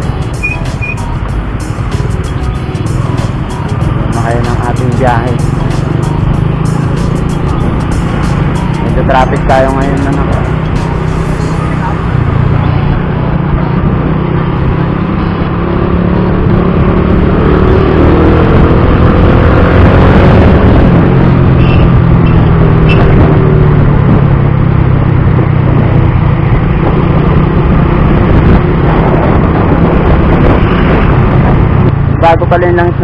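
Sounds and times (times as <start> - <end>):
road noise: 0.0 - 33.0
scooter engine drone: 0.0 - 33.0
wind noise: 0.0 - 33.0.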